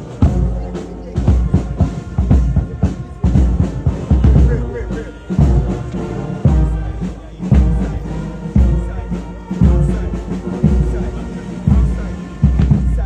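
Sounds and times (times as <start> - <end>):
slow music with bass drum: 0.0 - 13.0.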